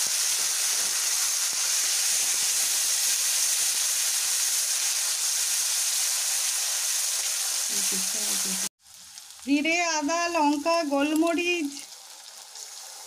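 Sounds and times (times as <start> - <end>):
onion and garlic sizzling in oil: 0.0 - 13.0.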